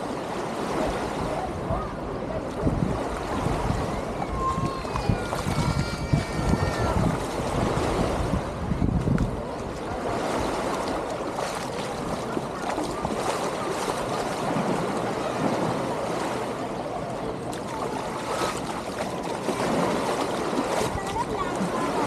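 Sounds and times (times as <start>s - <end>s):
indistinct crowd chatter: 0.0s - 22.0s
small waves washing onto sand: 0.0s - 22.0s.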